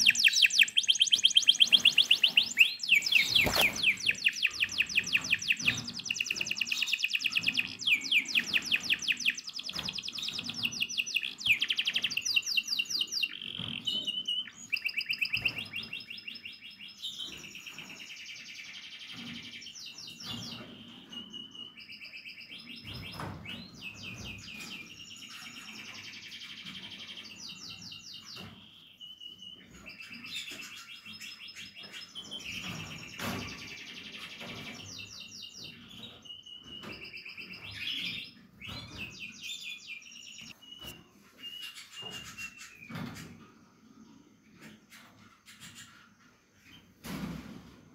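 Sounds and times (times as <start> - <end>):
canary singing trills: 0.0 - 43.3.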